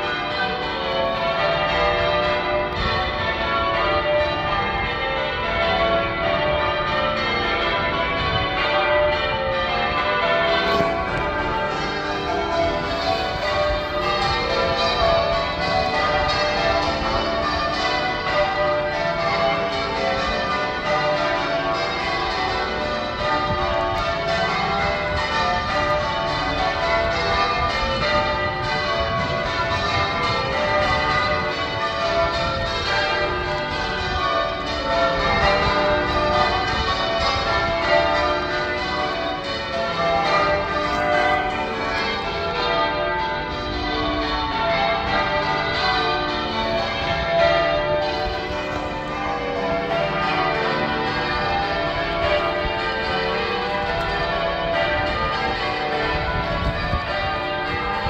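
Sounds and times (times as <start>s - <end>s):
church bells change ringing: 0.0s - 58.0s.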